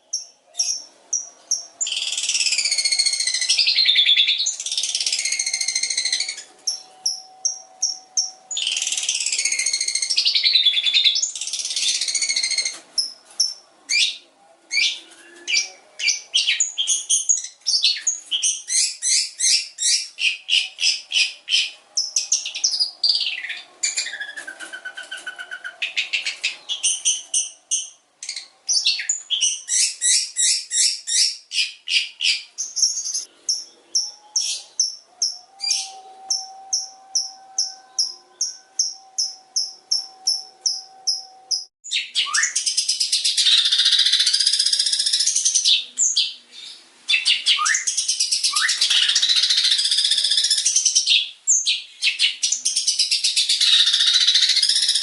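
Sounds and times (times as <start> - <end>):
bird singing high chips: 0.0 - 14.2, 14.8 - 55.0.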